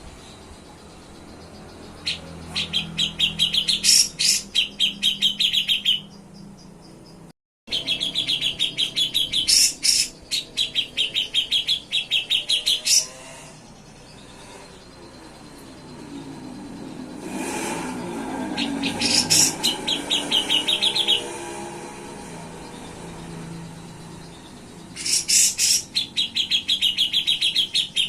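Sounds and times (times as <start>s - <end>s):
bird chipping trills: 0.0s - 28.0s.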